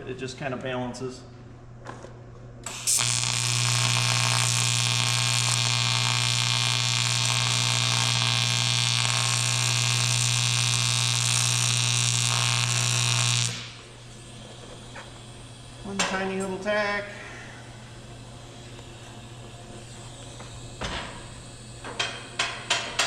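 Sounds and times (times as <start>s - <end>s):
welding arc buzzing and hissing: 2.6s - 23.0s.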